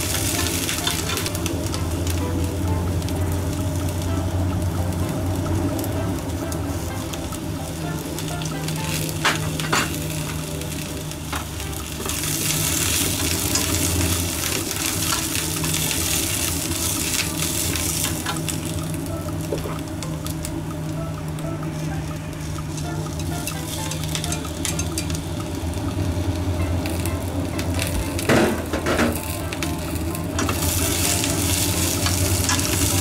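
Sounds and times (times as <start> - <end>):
peppers sizzling in a frying pan: 0.0 - 33.0.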